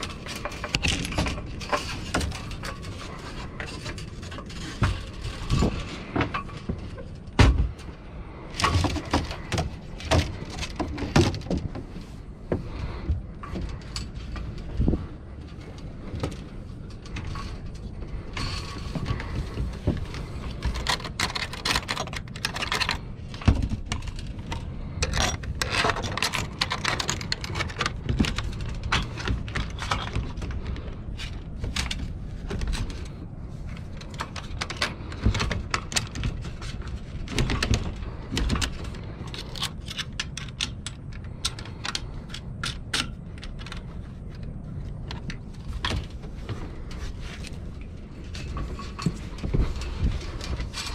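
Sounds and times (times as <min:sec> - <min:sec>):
metal clicks and rattles: 0:00.0 - 0:50.9.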